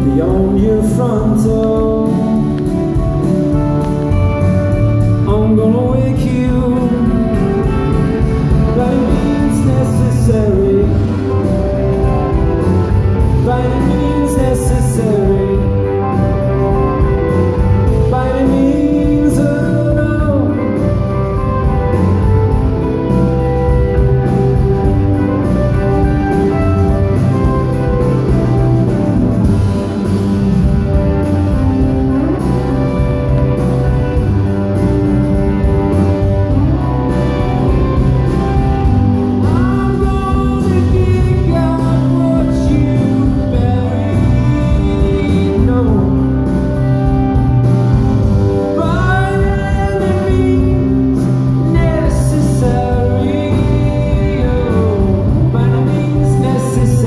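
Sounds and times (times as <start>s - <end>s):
bass guitar: 0.0s - 57.0s
electric guitars: 0.0s - 57.0s.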